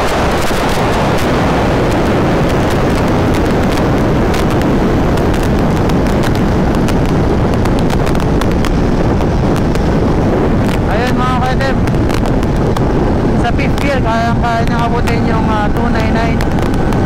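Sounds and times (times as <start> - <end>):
sharp crackles: 0.0 - 17.0
wind rush on microphone: 0.0 - 17.0.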